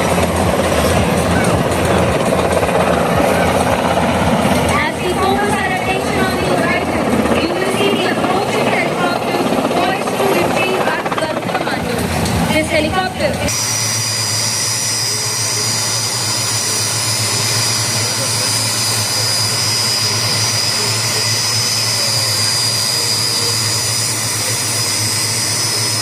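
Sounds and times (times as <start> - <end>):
helicopter running: 0.0 - 26.0.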